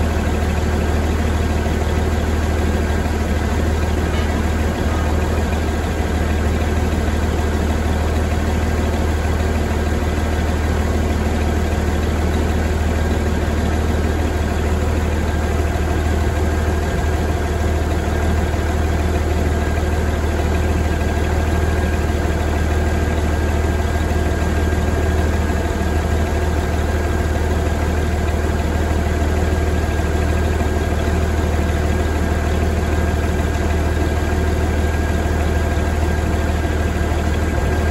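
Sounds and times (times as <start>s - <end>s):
diesel engine idling: 0.0s - 37.9s.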